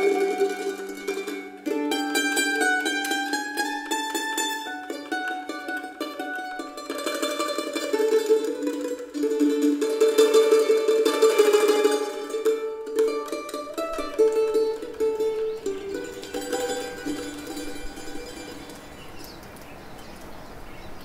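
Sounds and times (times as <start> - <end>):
plucked string instrumental music: 0.0 - 19.4.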